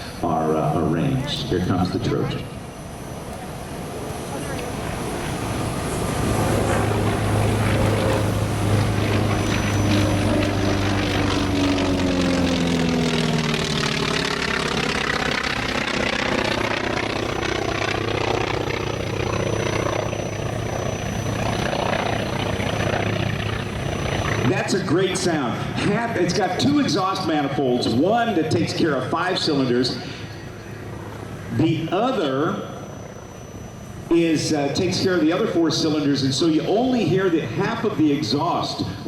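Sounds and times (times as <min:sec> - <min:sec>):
radial aircraft engine fly-by: 0:00.0 - 0:39.0.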